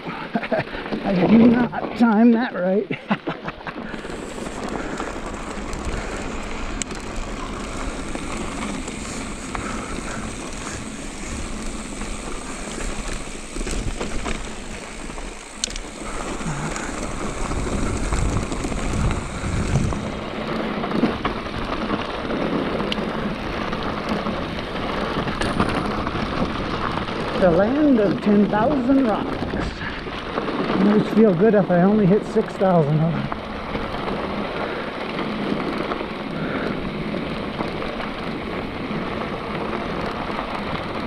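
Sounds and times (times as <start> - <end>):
bike clicks and rattles: 0.0 - 41.0
tyres rolling over dirt and stones: 0.0 - 41.0
wind rumble on microphone: 3.1 - 41.0.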